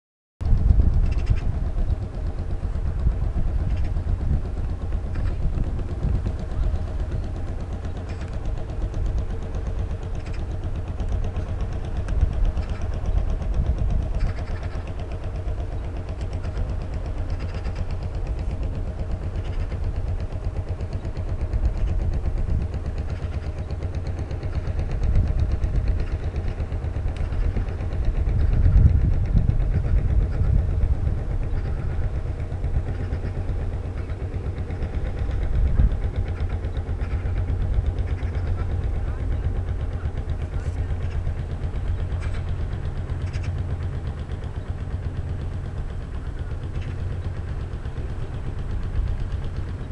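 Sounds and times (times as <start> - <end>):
boat engine droning: 0.4 - 49.9.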